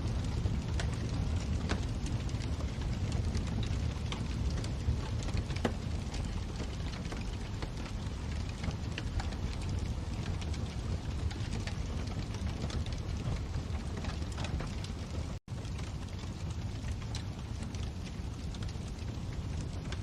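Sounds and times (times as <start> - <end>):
fire crackles and pops: 0.0 - 20.0
flames rumbling: 0.0 - 20.0.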